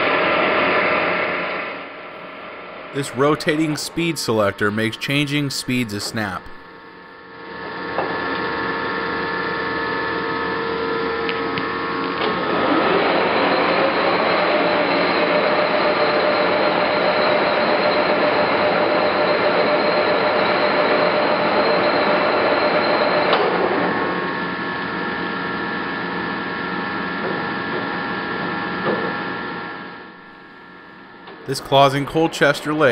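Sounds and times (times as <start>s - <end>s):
lathe running with whine: 0.0s - 4.9s, 6.6s - 32.9s.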